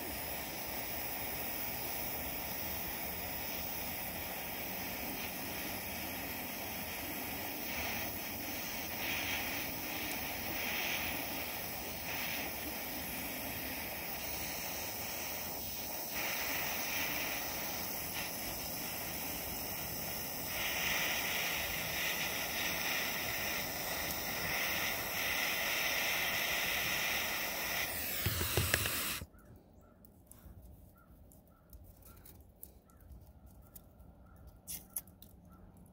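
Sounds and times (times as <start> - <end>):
blowtorch flame hissing: 0.0 - 29.3.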